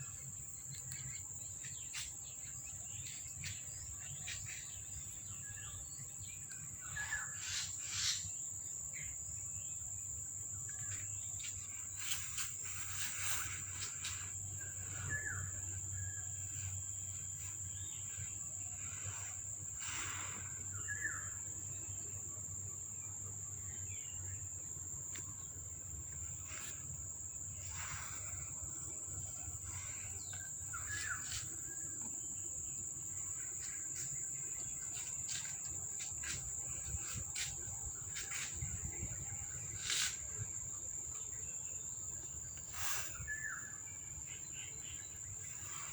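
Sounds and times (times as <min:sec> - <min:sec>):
high-pitched insect trill: 0:00.0 - 0:45.9.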